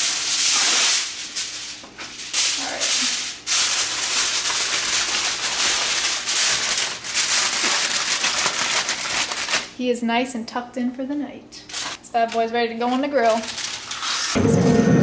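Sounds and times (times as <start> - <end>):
aluminium foil crinkling: 0.0 - 9.8, 11.6 - 14.4.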